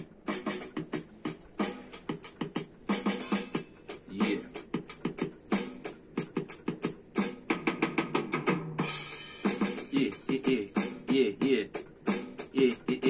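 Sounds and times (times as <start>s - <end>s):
electronic drum beat: 0.0s - 13.0s.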